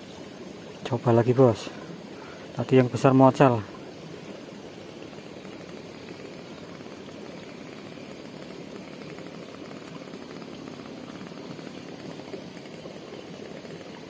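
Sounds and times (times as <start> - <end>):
water trickling and gurgling: 0.0 - 14.0.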